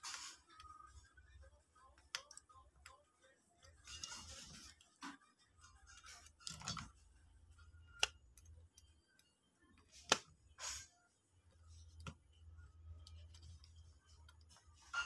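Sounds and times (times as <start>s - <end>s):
faint low hum: 0.2s - 15.0s.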